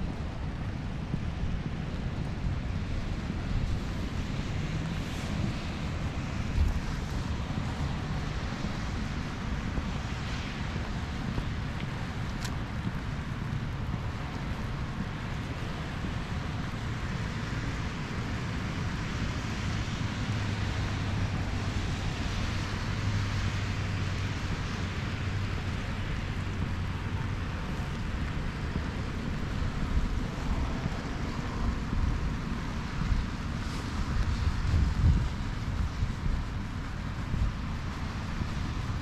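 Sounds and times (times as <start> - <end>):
steady rain hiss: 0.0 - 39.0
vehicle engine hum: 0.0 - 39.0
wind gusting on microphone: 0.0 - 39.0.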